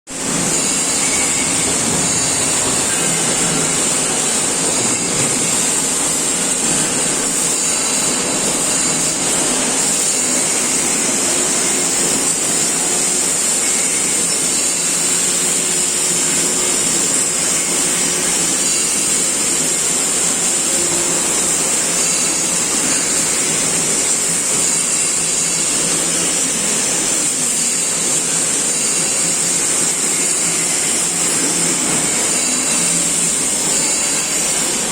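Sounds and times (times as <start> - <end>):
high hiss of machinery: 0.1 - 34.9.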